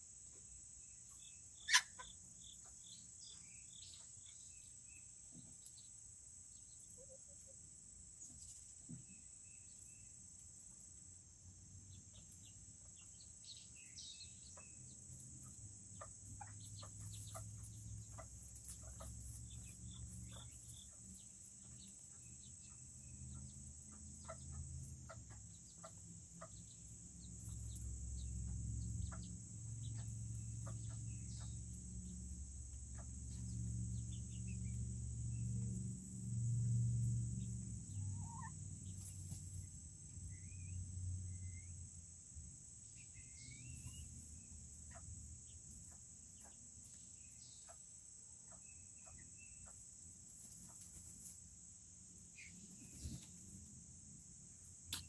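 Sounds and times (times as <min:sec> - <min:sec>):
chicks cheeping: 0:00.3 - 0:10.8, 0:11.6 - 0:36.2, 0:37.1 - 0:41.8, 0:42.6 - 0:51.4, 0:52.2 - 0:53.6.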